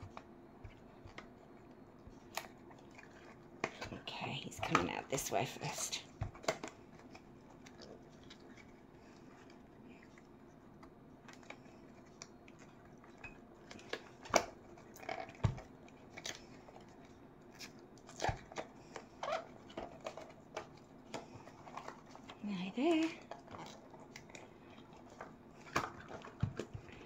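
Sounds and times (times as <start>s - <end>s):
low steady hum: 0.0s - 27.0s
silicone mold peeling and crackling: 0.0s - 27.0s.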